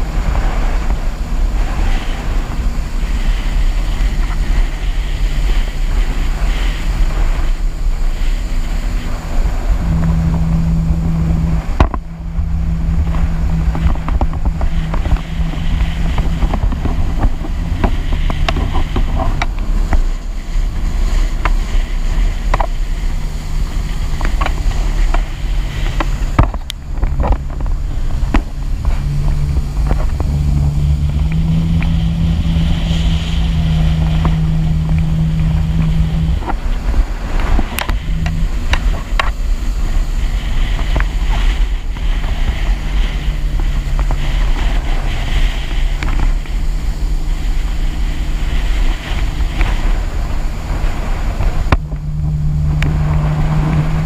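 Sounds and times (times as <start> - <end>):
jet ski engine: 0.0 - 54.0
wind noise on microphone: 0.0 - 54.0.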